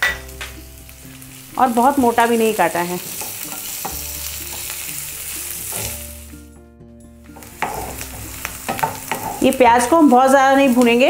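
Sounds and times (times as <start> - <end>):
onion sizzling in hot oil: 0.0 - 6.6, 7.2 - 11.0.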